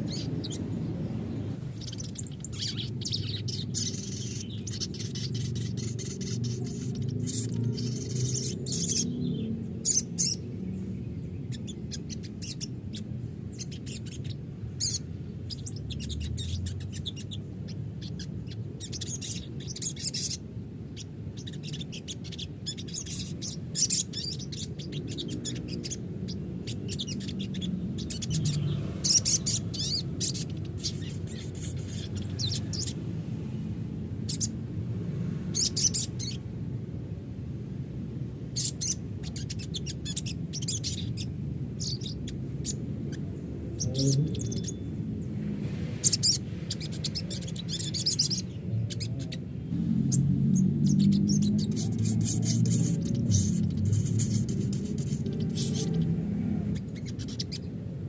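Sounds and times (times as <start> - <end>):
bird chirping: 0.0 - 36.4, 38.4 - 57.8.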